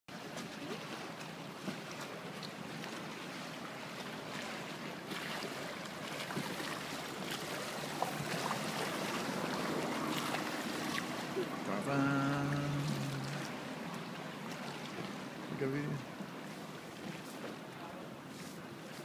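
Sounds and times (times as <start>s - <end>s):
water sloshing against boat hull: 0.1s - 19.0s.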